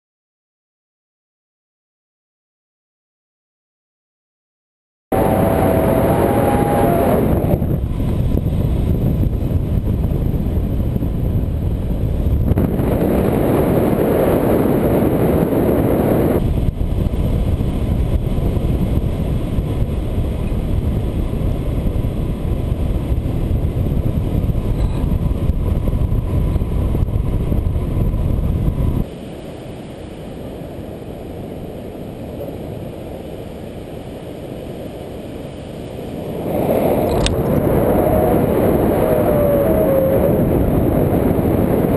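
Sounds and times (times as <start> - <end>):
wind buffeting microphone: 5.1 - 41.9.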